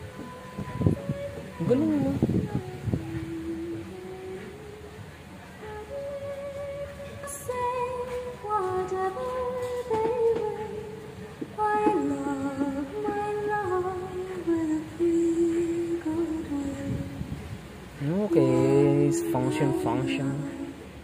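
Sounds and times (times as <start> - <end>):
song with slow sung melody: 0.0 - 21.0.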